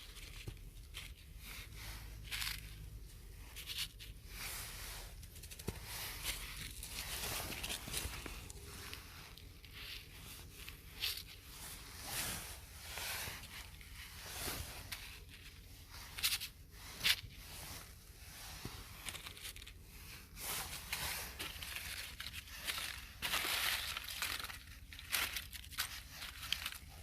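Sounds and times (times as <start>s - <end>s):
dry material rustling and crinkling: 0.0s - 27.0s.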